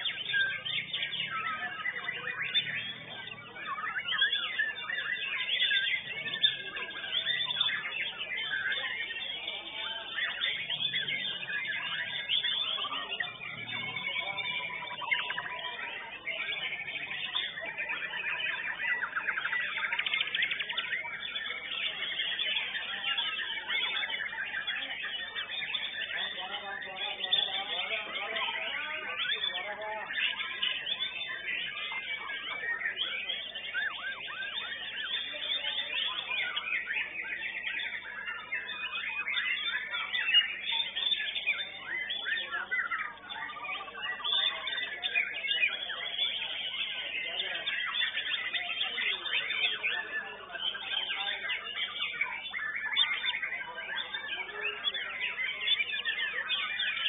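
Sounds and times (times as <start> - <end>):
birds singing rapid trills: 0.0 - 57.0.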